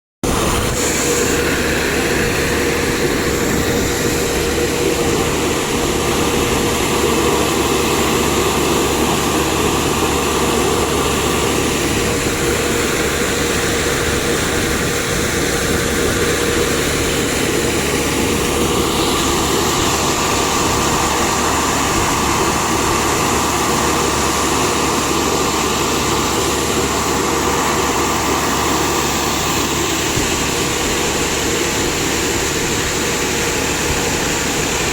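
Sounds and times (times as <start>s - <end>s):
heavy engine drone: 0.2s - 34.9s
high whine: 0.2s - 34.9s.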